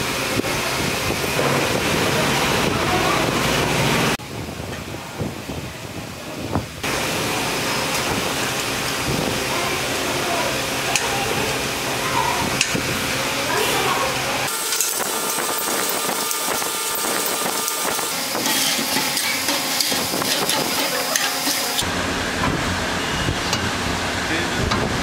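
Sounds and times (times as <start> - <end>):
hissing workshop noise: 0.0 - 25.0.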